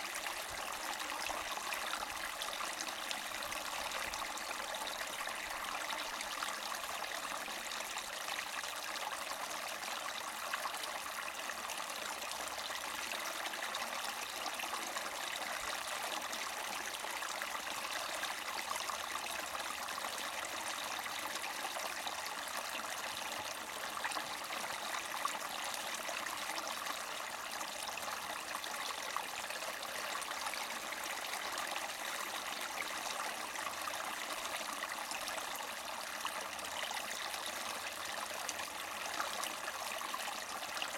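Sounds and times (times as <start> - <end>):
brook gurgling over rocks: 0.0 - 40.9.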